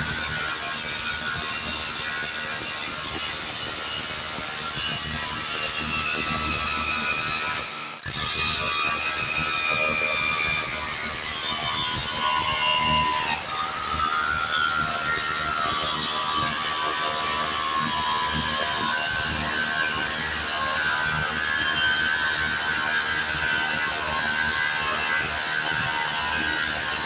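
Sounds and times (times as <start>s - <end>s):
hammer drill chipping tiles: 0.0s - 27.0s.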